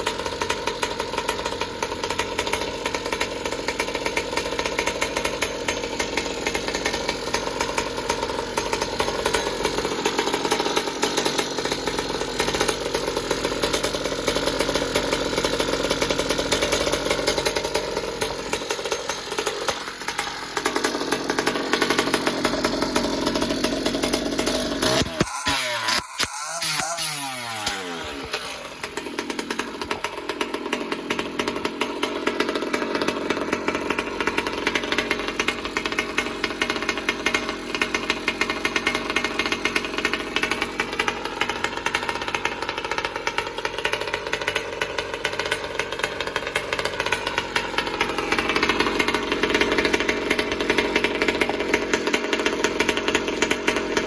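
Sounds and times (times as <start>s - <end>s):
small two-stroke engine revving: 0.0s - 54.0s.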